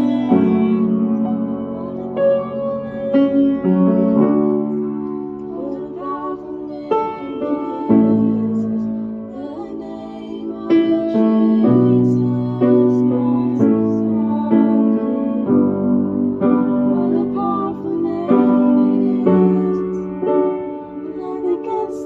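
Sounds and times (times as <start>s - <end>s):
piano chords: 0.0s - 22.0s
voices singing: 0.0s - 22.0s.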